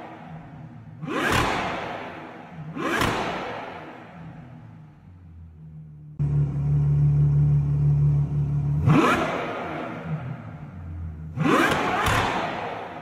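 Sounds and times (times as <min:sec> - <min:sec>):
car engine idling: 0:00.0 - 0:12.8
car engine revving: 0:00.0 - 0:13.0.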